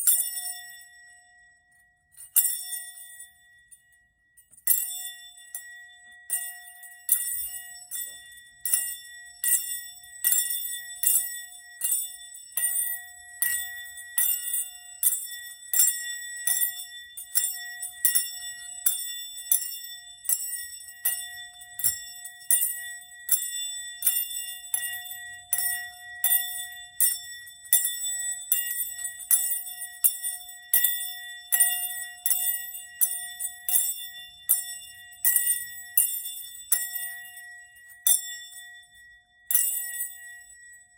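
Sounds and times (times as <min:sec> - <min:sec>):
small bell ringing: 0:00.0 - 0:40.9.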